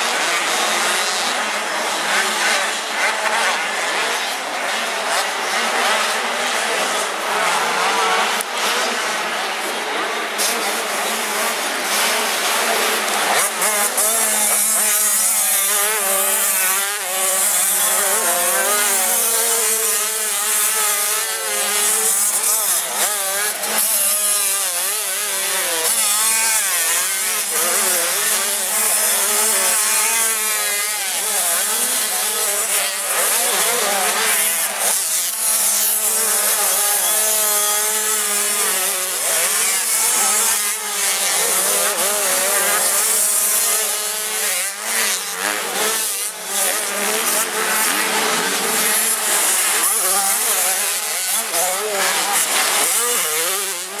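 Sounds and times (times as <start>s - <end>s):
motocross bike engines buzzing: 0.0s - 54.0s.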